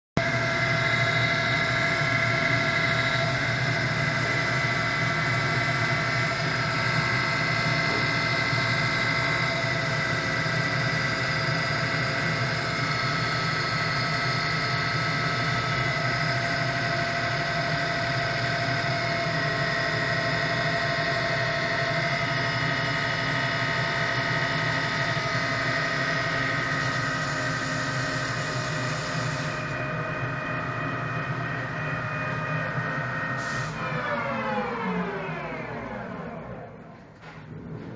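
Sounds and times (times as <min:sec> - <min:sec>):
lathe mechanical whine: 0:00.2 - 0:37.8
constant machine hum: 0:00.2 - 0:37.9.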